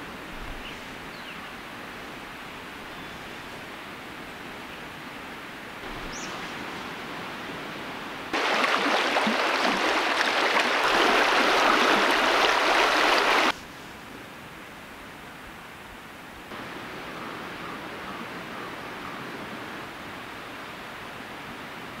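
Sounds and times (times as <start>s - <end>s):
creek water rushing: 0.0s - 13.6s, 16.5s - 22.0s.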